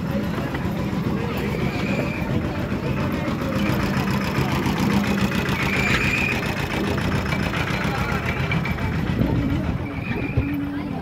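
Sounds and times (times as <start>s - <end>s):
people talking: 0.0s - 11.0s
small engine idling: 0.0s - 11.0s.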